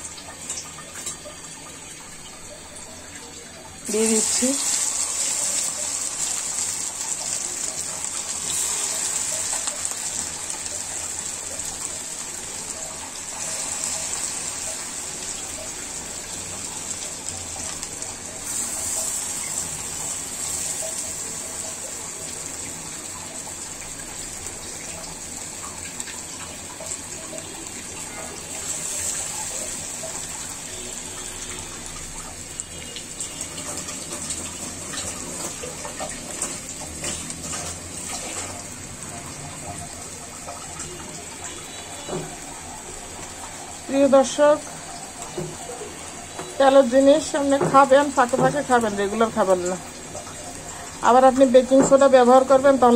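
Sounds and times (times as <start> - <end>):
fritters deep-frying in hot oil: 3.7 - 52.9.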